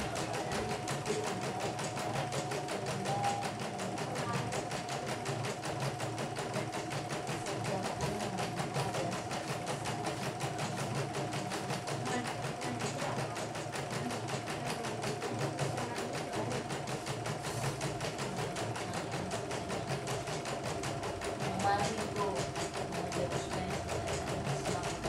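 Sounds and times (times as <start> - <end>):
embroidery machine needle stitching: 0.0 - 25.0
motor hum: 0.0 - 25.0.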